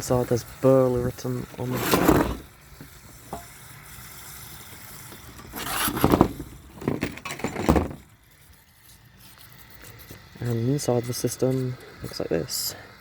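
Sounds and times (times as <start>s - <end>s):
metal parts scraping and rattling: 0.1s - 10.6s.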